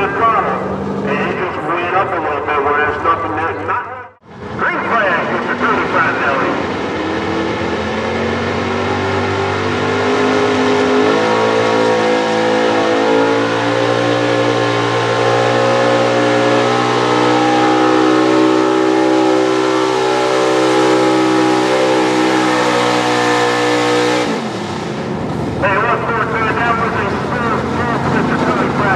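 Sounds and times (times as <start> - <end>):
truck engine at full throttle: 0.0 - 28.9.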